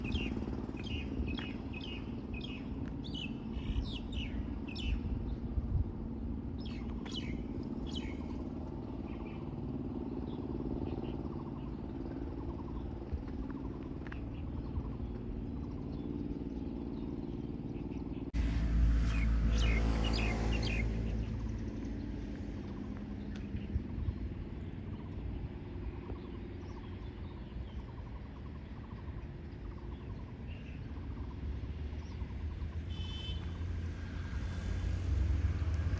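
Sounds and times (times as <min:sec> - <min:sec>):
steady low rumble: 0:00.0 - 0:32.8
small birds chirping: 0:00.0 - 0:35.0.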